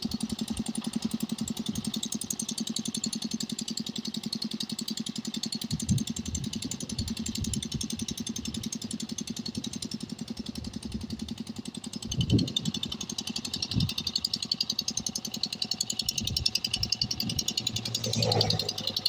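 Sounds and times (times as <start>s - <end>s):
diesel engine chugging: 0.0s - 19.0s.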